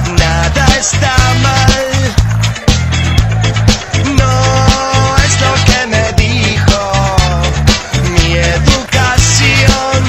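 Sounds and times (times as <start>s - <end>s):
rock song with singing: 0.0s - 10.0s.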